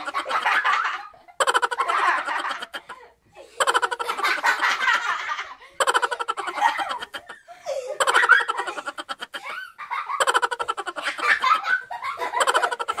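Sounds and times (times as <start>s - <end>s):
person laughing: 0.0s - 0.6s, 1.4s - 3.0s, 3.6s - 5.1s, 5.8s - 13.0s.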